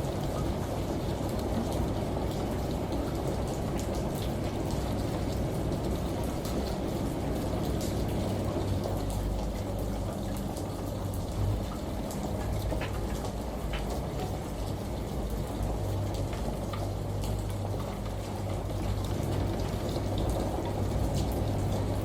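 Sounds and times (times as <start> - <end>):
muffled rush of running water: 0.0 - 22.0
light drip ticks: 0.2 - 22.0.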